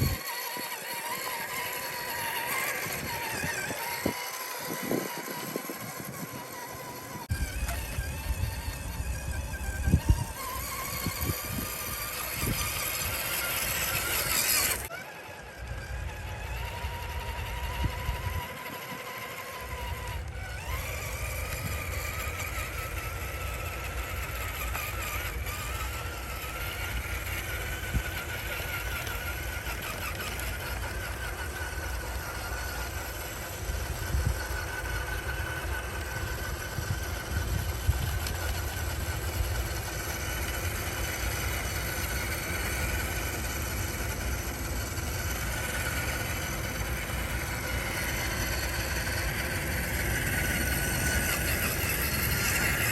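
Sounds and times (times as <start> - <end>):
electric motor whine: 0.0 - 52.9.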